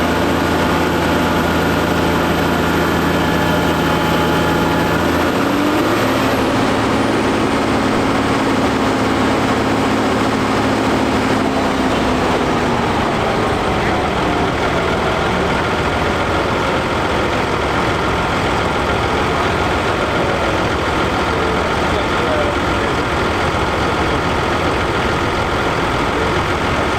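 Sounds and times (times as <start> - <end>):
tractor engine under load: 0.0 - 26.9.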